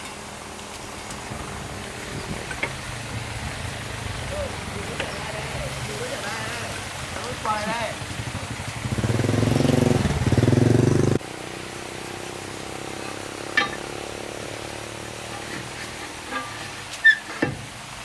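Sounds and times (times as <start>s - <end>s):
engine droning: 0.0s - 16.8s.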